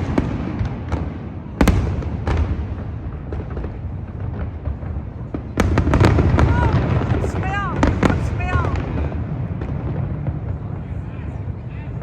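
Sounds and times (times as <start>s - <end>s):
fireworks bang: 0.0s - 11.6s
fireworks crackling: 0.0s - 12.0s.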